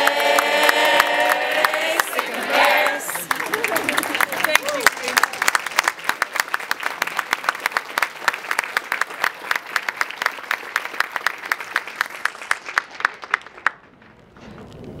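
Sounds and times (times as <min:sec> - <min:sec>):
audience applauding: 0:00.0 - 0:13.9
loud hand claps close by: 0:00.0 - 0:13.9.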